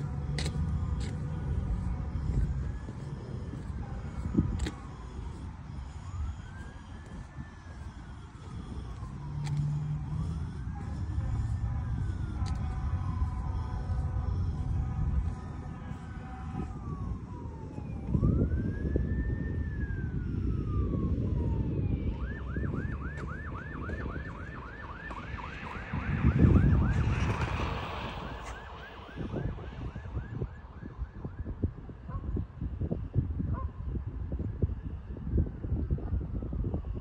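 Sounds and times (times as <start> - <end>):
low rumbling noise: 0.0 - 30.6
emergency vehicle siren: 0.0 - 37.0.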